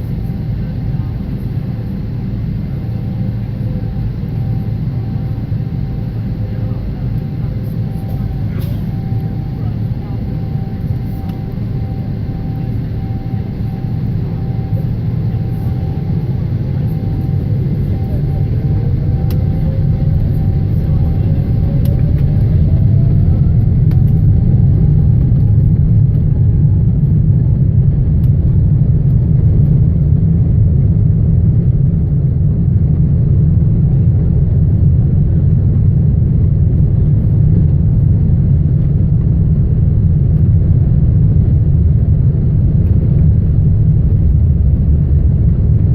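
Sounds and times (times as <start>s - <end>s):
jet engine whine: 0.0s - 45.9s
jet plane takeoff rumble: 0.0s - 45.9s.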